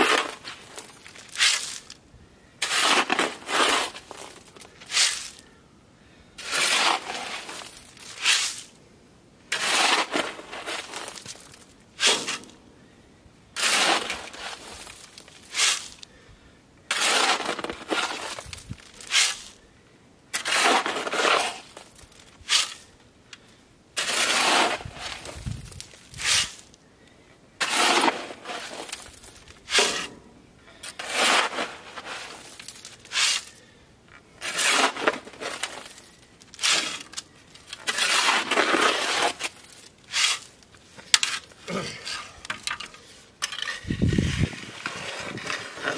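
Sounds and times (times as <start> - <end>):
shovel scraping gravel: 0.0 - 2.0, 2.6 - 5.4, 6.4 - 8.8, 9.5 - 12.6, 13.6 - 16.0, 16.9 - 19.6, 20.3 - 22.9, 24.0 - 26.8, 27.6 - 30.2, 30.8 - 33.7, 34.4 - 45.9.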